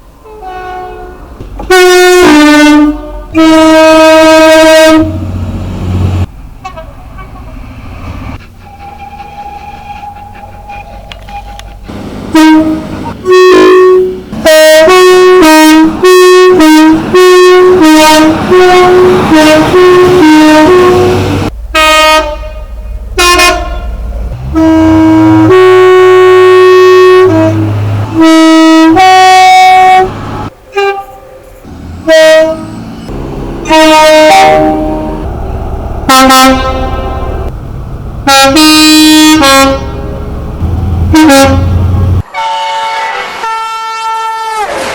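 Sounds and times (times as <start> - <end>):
two-tone train horn blasts: 0.2 - 5.3, 6.6 - 7.5, 8.8 - 32.8, 33.6 - 35.3, 36.0 - 37.5, 38.2 - 40.2, 41.0 - 44.9
low engine rumble: 4.9 - 42.3.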